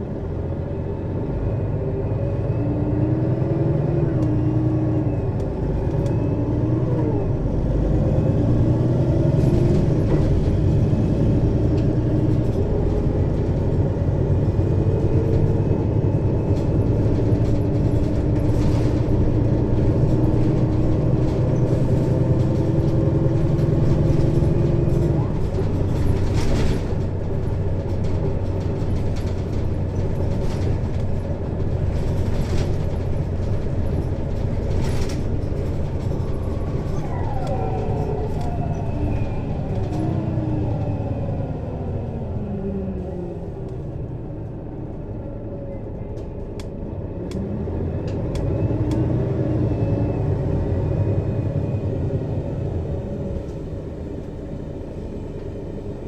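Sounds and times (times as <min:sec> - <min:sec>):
bus diesel engine under load: 0:00.0 - 0:56.0.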